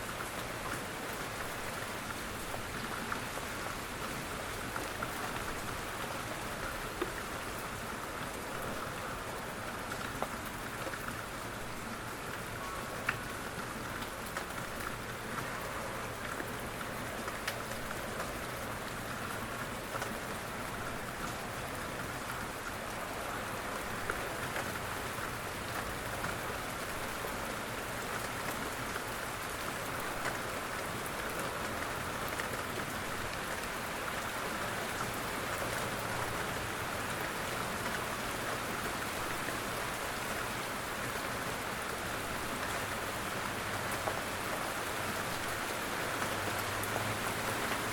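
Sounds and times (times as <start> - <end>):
steady rain: 0.0 - 47.9.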